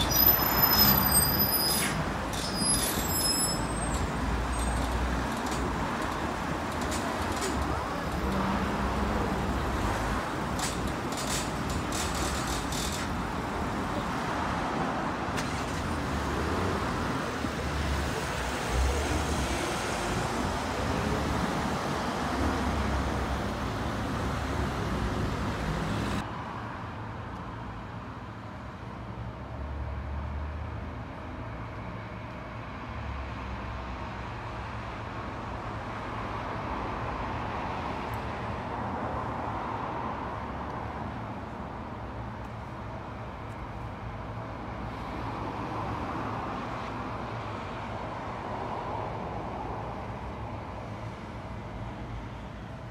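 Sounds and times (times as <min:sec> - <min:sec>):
city street traffic: 0:00.0 - 0:52.9.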